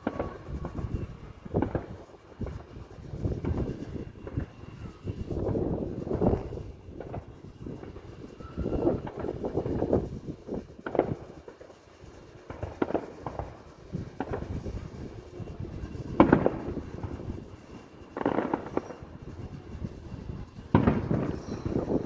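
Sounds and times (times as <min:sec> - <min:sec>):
fireworks booming: 0:00.0 - 0:04.6, 0:05.2 - 0:22.0
fireworks crackling: 0:00.0 - 0:22.0.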